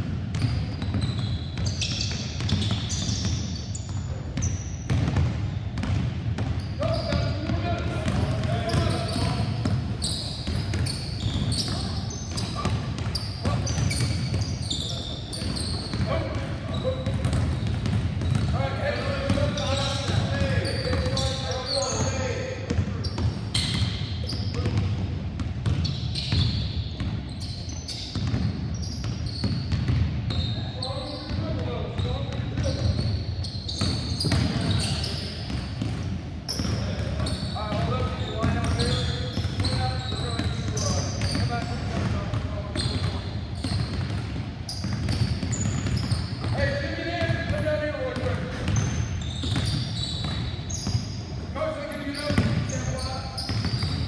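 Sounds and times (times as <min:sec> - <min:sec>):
basketballs bouncing on hardwood: 0:00.0 - 0:27.3, 0:27.9 - 0:30.5, 0:33.7 - 0:54.0
sneakers squeaking on floor: 0:00.0 - 0:54.0.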